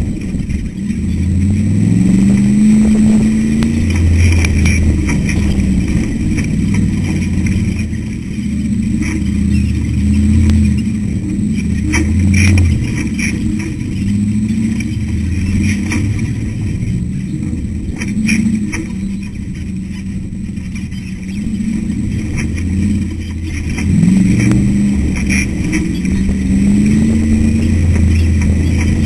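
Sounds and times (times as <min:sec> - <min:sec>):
chassis knocks and clatter: 0:00.0 - 0:29.0
race car engine revving: 0:00.0 - 0:29.0.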